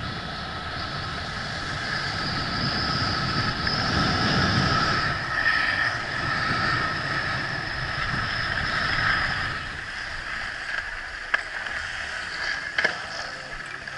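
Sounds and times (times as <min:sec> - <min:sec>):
skis scraping over snow: 0:00.4 - 0:13.9.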